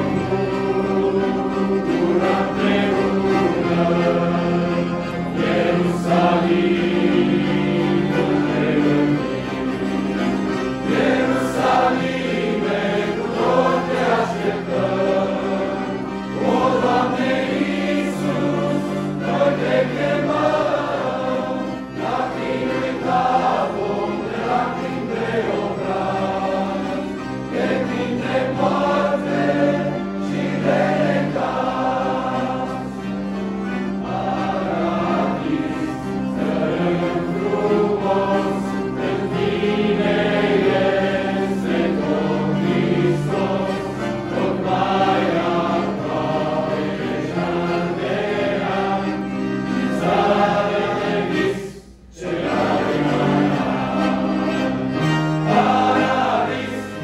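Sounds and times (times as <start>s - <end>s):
youth choir singing a hymn: 0.0s - 57.0s.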